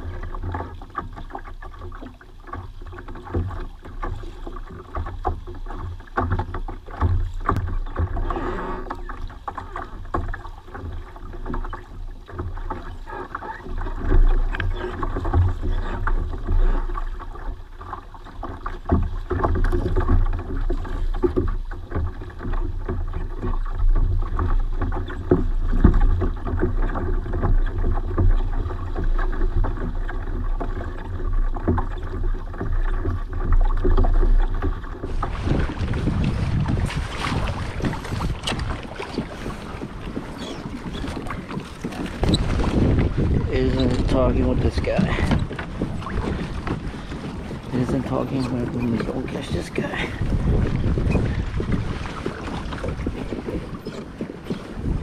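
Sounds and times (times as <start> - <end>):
water slapping kayak hull: 0.0 - 55.0.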